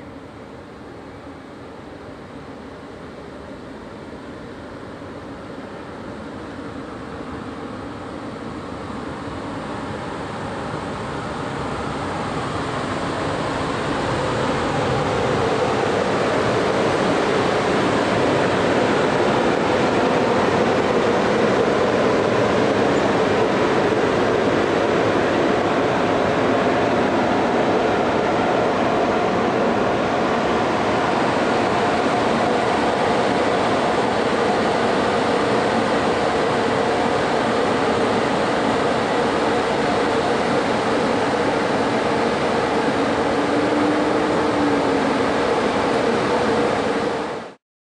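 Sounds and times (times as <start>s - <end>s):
electric locomotive passing: 0.0s - 47.6s.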